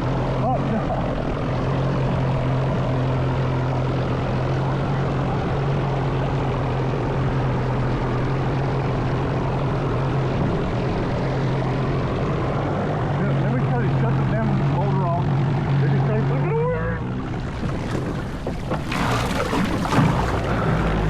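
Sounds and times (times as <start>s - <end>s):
electric boat motor humming: 0.0s - 21.0s
rushing water: 0.0s - 21.0s.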